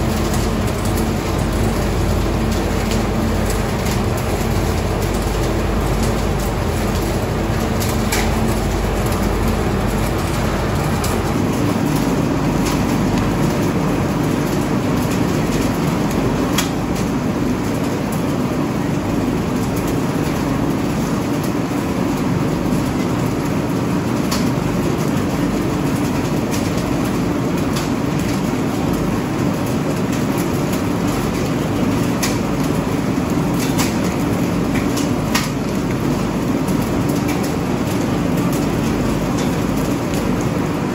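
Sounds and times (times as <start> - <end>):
constant machine noise: 0.0 - 40.9.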